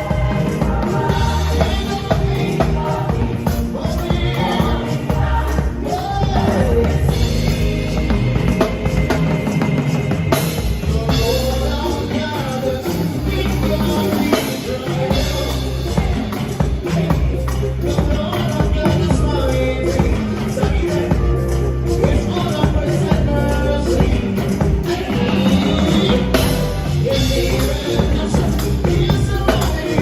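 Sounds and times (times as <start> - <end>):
bass line: 0.0 - 30.0
drum kit playing: 0.0 - 30.0
people singing: 0.0 - 30.0.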